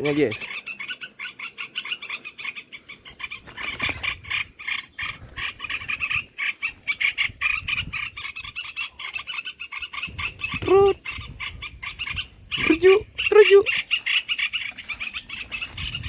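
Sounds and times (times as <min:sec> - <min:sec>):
bulbuls chattering: 0:00.0 - 0:16.0.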